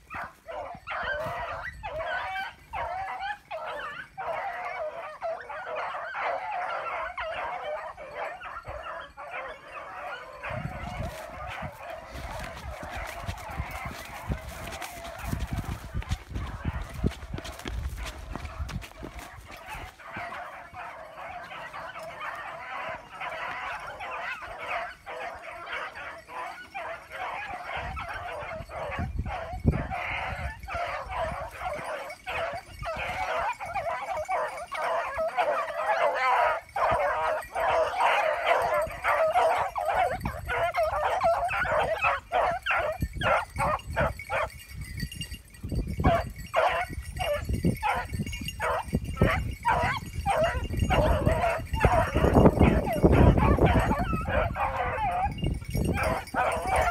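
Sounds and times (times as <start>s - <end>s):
hounds baying and yelping: 0.0s - 56.9s.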